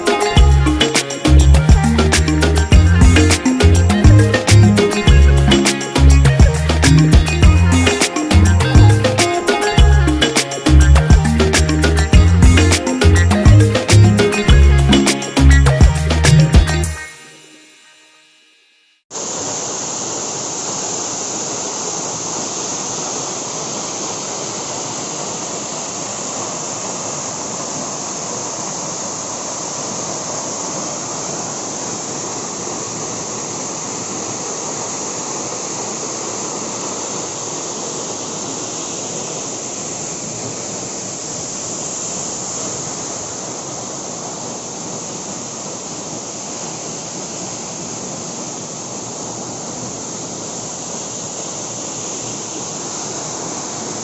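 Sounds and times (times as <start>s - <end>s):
waterfall rushing: 0.0s - 17.7s, 19.1s - 54.0s.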